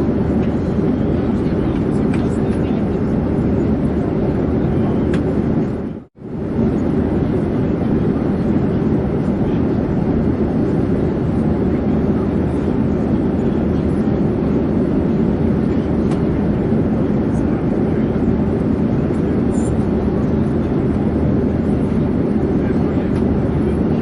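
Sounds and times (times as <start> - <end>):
airplane drone: 0.0 - 24.0.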